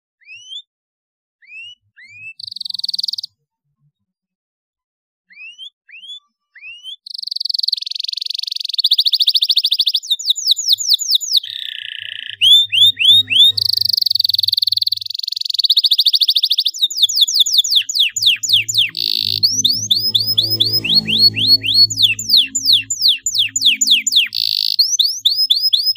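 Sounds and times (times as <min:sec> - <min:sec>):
canary singing trills: 0:01.4 - 0:03.4, 0:05.3 - 0:25.9.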